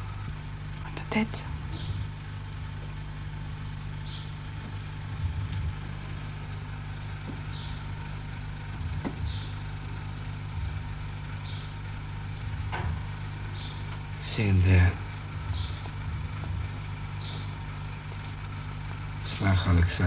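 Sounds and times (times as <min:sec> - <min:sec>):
soundtrack hum and hiss: 0:00.0 - 0:20.0
soft low bumps: 0:01.4 - 0:14.2, 0:14.9 - 0:18.6.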